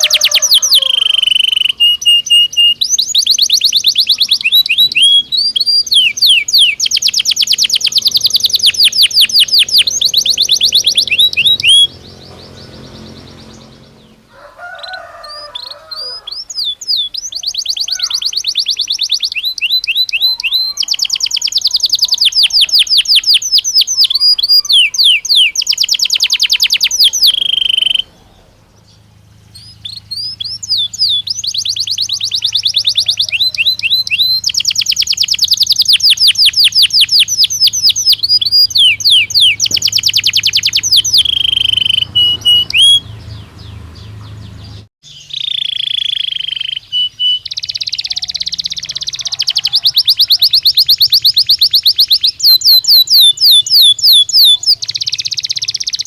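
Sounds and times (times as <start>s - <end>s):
canary singing high trills: 0.0s - 56.0s.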